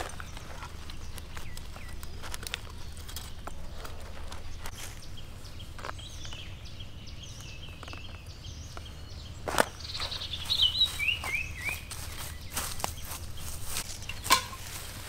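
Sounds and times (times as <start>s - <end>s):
outdoor background noise: 0.0s - 15.0s
songbirds chirping: 0.0s - 15.0s.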